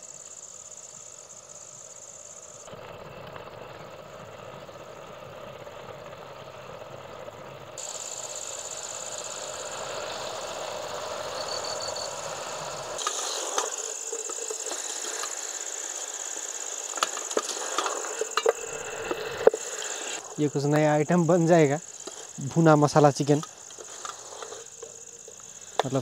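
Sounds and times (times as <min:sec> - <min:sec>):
night insects chirping: 0:00.0 - 0:26.0.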